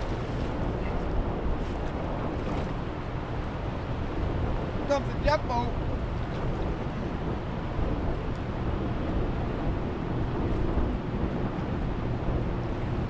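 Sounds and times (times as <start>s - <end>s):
boat engine drone: 0.0s - 13.0s
wind noise on microphone: 0.0s - 13.0s.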